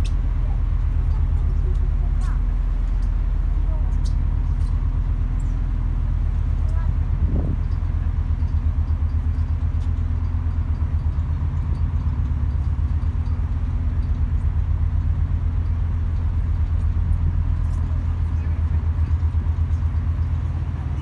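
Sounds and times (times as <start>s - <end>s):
ship engines rumbling and throbbing: 0.0s - 21.0s.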